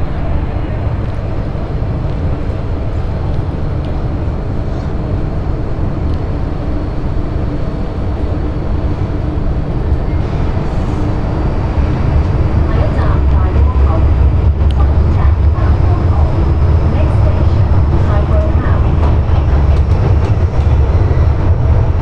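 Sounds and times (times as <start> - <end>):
low motor hum: 0.0 - 22.0
train wheels rumbling on rail: 0.0 - 22.0.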